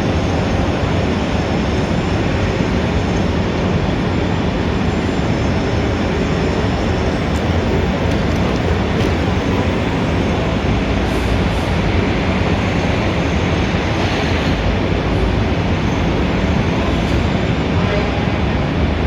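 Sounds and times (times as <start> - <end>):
street traffic roar: 0.0 - 19.0.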